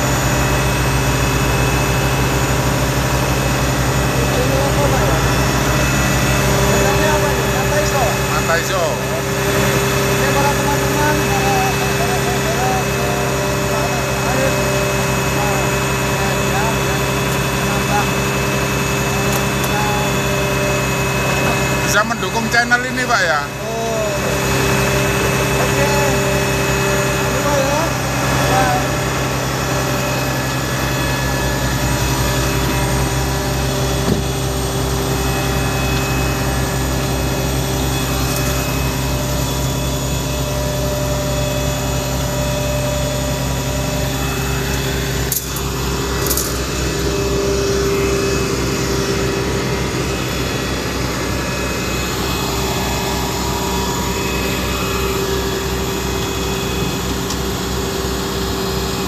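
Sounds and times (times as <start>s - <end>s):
diesel truck engine running: 0.0s - 59.0s
steady higher tone: 0.0s - 59.0s.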